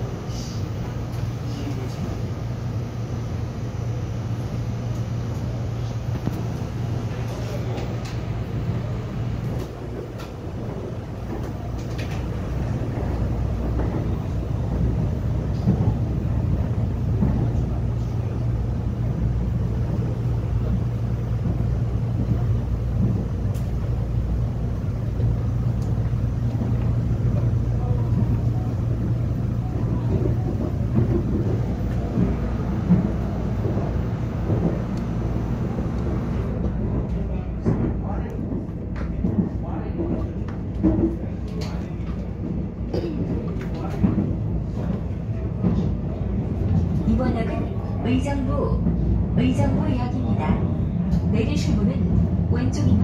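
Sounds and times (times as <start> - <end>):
train hum and rumble: 0.0 - 53.0.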